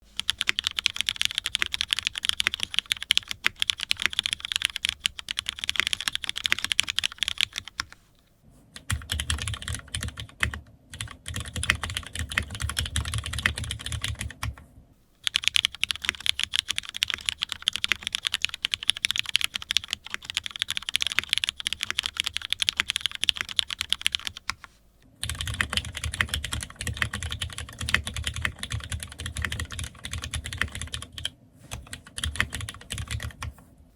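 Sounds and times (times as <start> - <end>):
fast mechanical keyboard typing: 0.2 - 8.0, 8.8 - 14.6, 15.2 - 24.6, 25.2 - 33.5.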